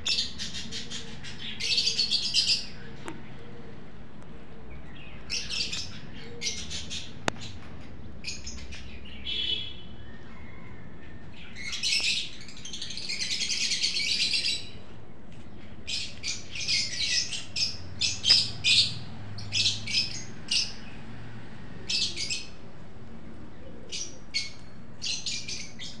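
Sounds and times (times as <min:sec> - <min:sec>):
birds chirping: 0:00.0 - 0:14.8, 0:15.4 - 0:21.2, 0:21.8 - 0:26.0.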